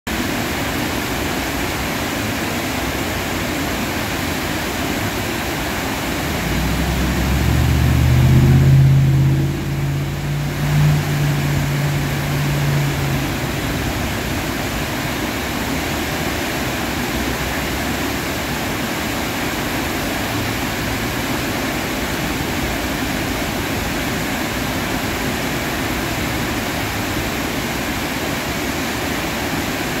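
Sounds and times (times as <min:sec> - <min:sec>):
water rushing over dam gates: 0:00.1 - 0:30.0
vehicle engine hum passing: 0:00.4 - 0:30.0.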